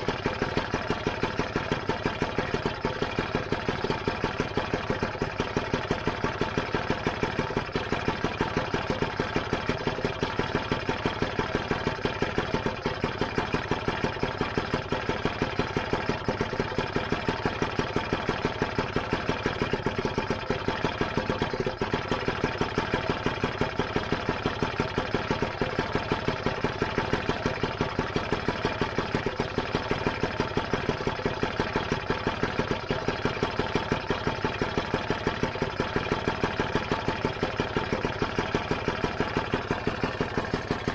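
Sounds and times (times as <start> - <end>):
two-stroke engine idling: 0.0 - 40.9.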